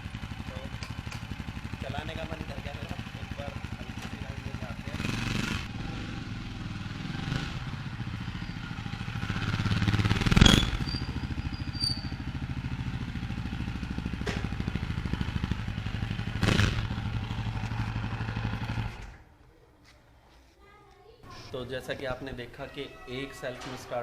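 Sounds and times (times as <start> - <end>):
motorcycle engine idling: 0.0 - 19.2.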